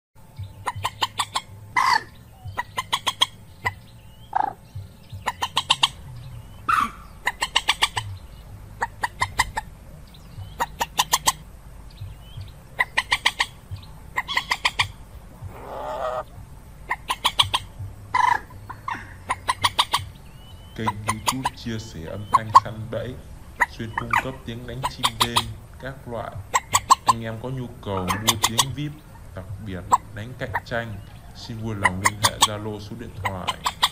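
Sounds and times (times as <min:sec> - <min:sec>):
low hum: 0:00.2 - 0:33.9
moorhen clicking calls: 0:00.2 - 0:33.9
moorhen squawks: 0:00.2 - 0:33.9.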